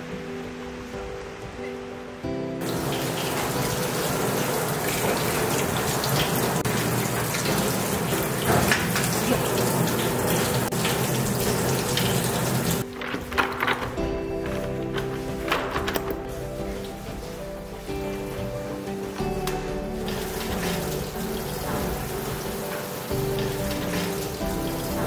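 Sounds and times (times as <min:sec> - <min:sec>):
background music: 0:00.0 - 0:25.0
water running and splashing: 0:02.6 - 0:25.0.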